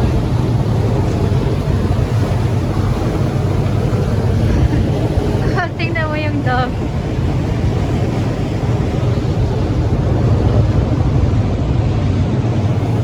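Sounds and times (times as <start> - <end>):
ferry engine rumble: 0.0 - 13.0
wind and water rushing: 0.0 - 13.0.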